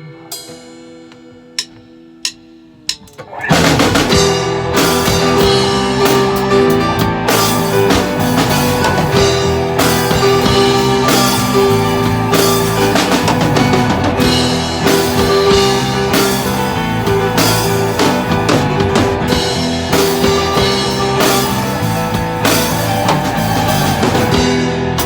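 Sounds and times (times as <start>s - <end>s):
rock music with drums and guitar: 0.0s - 25.0s.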